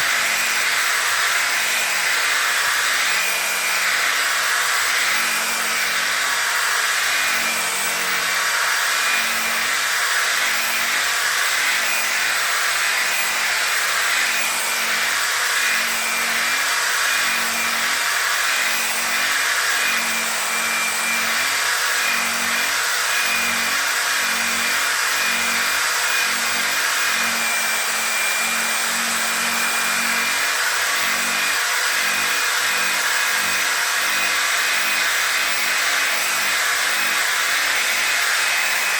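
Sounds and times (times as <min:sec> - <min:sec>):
electric sander motor whine: 0:00.0 - 0:38.9.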